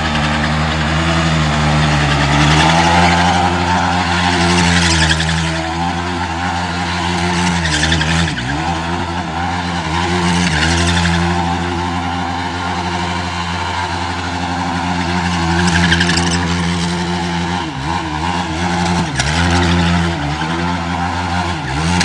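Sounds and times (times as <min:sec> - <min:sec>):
quad engine on rev limiter: 0:00.0 - 0:22.0
tyres spinning: 0:00.0 - 0:22.0.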